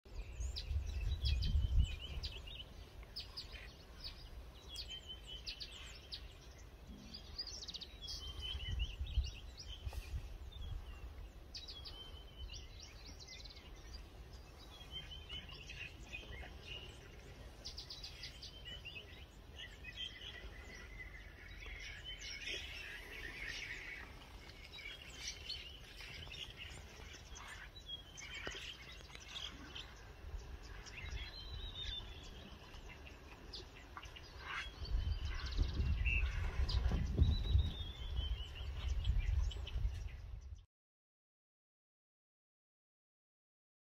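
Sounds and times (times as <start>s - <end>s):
small birds chirping: 0.1s - 40.6s.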